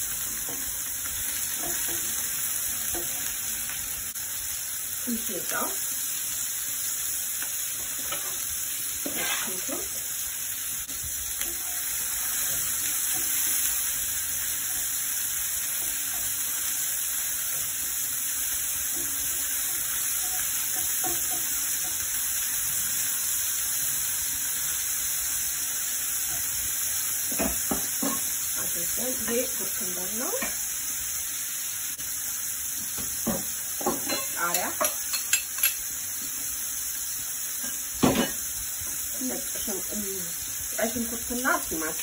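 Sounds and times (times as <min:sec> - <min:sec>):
mushrooms sizzling in oil: 0:00.0 - 0:42.0.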